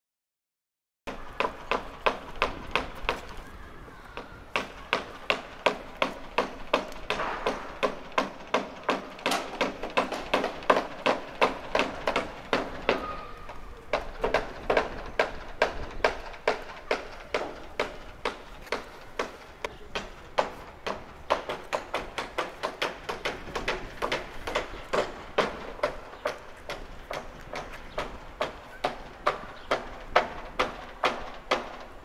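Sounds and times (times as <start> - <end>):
sharp rhythmic knocks: 1.1 - 3.2, 4.6 - 13.2, 13.9 - 32.0.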